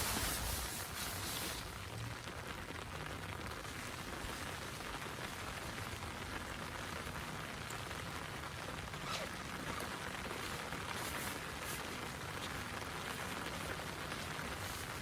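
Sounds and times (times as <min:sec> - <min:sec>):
rain falling steadily: 0:00.0 - 0:15.0.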